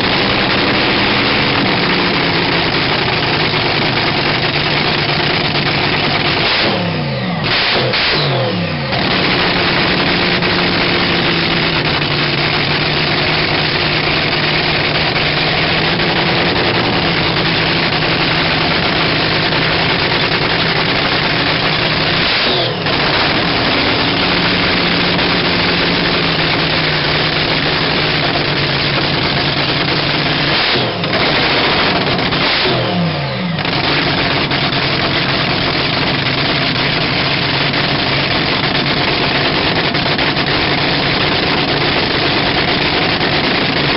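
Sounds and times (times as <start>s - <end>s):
dragster engine running: 0.0s - 43.9s.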